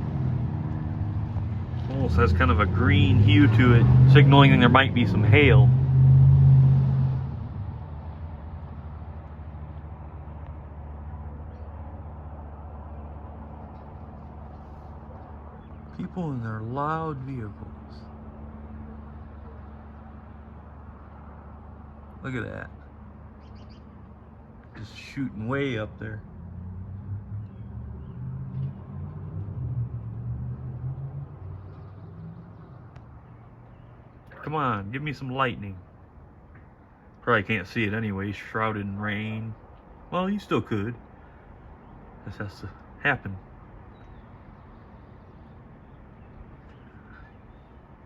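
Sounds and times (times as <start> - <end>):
passing road vehicle engine rumble: 0.0 - 48.0.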